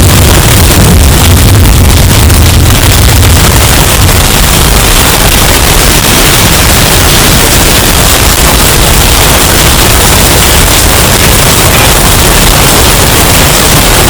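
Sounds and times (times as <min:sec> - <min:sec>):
distorted hurricane wind: 0:00.0 - 0:14.0.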